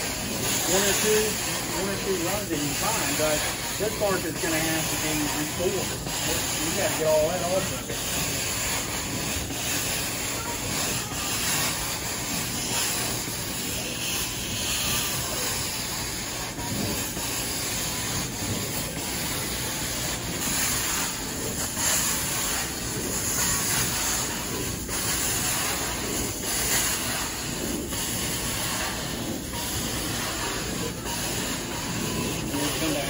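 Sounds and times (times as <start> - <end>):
carpet cleaner spraying and suction: 0.0 - 33.0.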